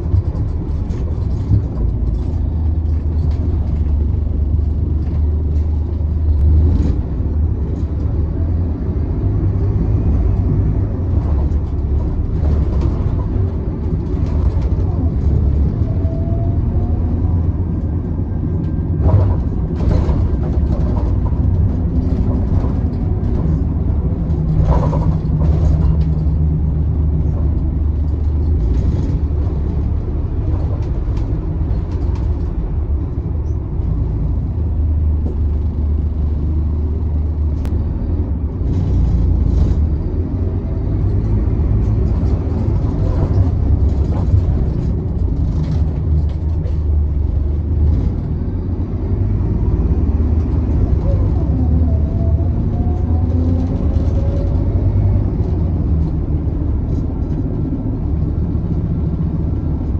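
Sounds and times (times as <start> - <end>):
bodywork rattles and knocks: 0.0 - 8.2, 17.8 - 37.8, 38.6 - 59.9
bus engine rumble: 0.0 - 59.9.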